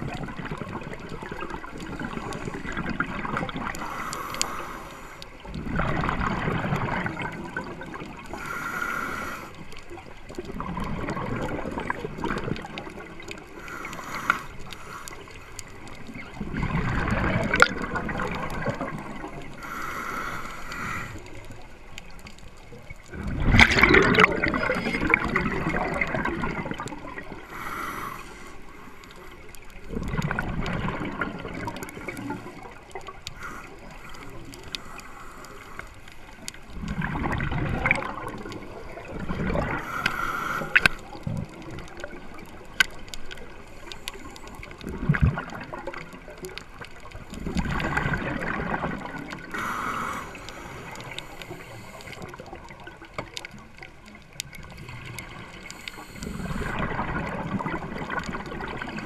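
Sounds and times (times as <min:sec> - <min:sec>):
regulator bubbles gurgling: 0:00.0 - 0:59.0
quiet hiss: 0:00.1 - 0:59.0.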